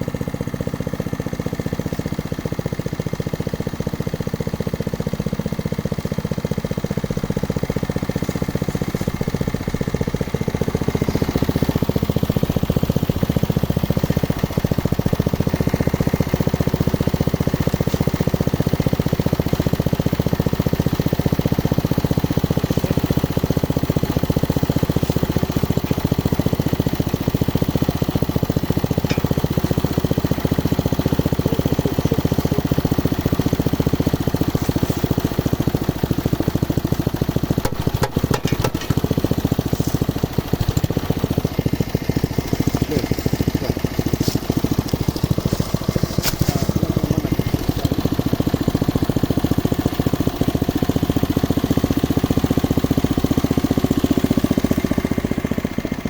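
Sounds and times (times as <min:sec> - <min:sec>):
drilling rig engine running: 0:04.2 - 0:56.0.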